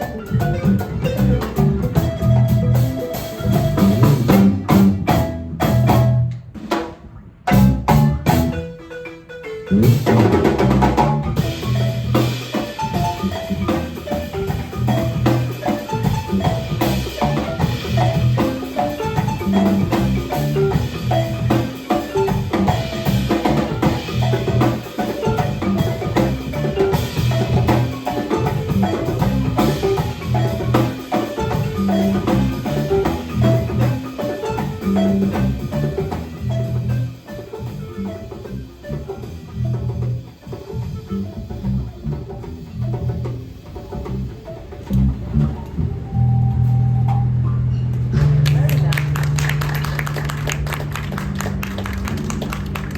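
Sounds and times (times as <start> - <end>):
pitched mallet notes: 0.0 - 6.4, 7.5 - 52.9.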